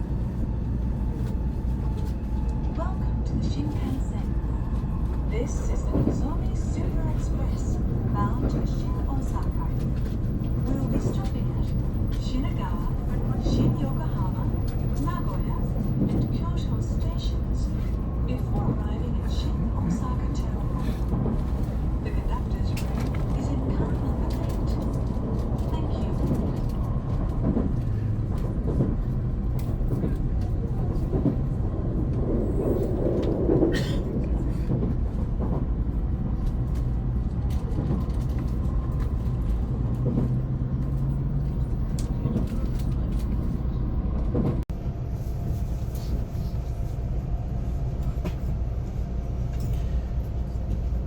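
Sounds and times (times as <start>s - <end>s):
train running low rumble: 0.0s - 51.0s.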